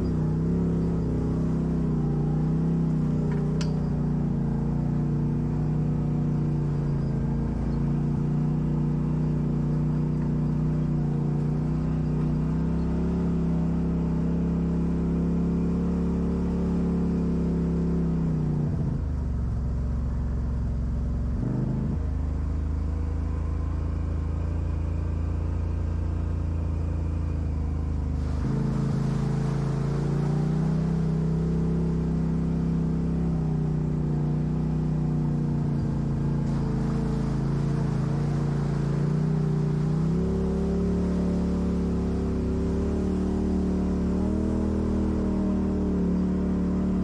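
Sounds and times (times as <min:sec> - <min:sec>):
off-road vehicle engine running: 0:00.0 - 0:47.0.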